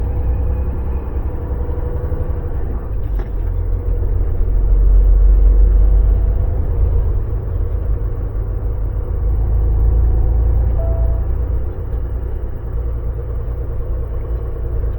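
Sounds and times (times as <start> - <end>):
diesel truck engine rumbling: 0.0 - 14.9.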